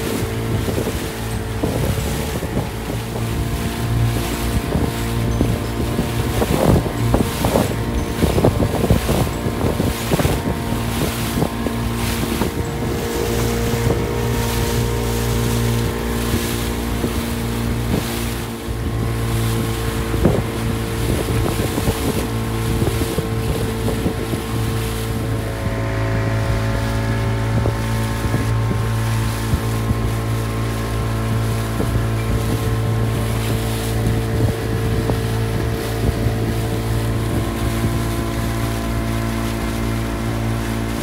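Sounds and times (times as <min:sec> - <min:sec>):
motorboat engine running: 0:00.0 - 0:41.0
water splashing against hull: 0:00.0 - 0:41.0
wind buffeting microphone: 0:00.0 - 0:41.0.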